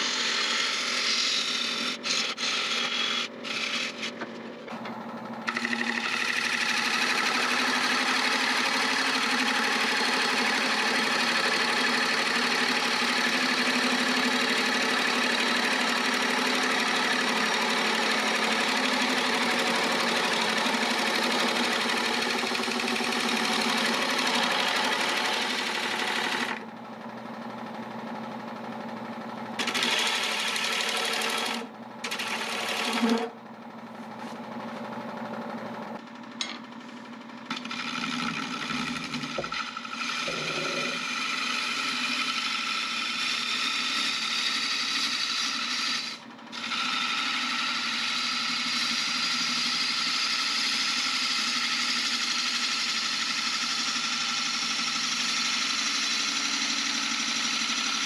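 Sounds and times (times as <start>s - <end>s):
gouge cutting spinning wood: 0.0s - 26.7s, 29.6s - 33.4s, 37.5s - 58.0s
wood lathe humming: 0.0s - 28.6s, 29.6s - 58.0s.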